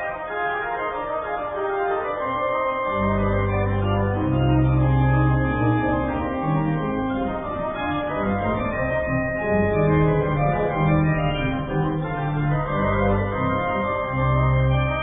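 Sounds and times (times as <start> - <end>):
organ chords: 0.1 - 15.0.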